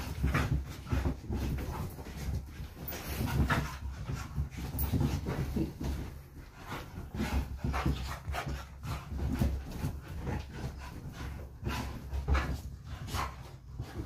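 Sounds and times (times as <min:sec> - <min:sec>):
dogs play-fighting noises: 0:00.0 - 0:14.0
dull thuds on cushions: 0:00.0 - 0:14.0.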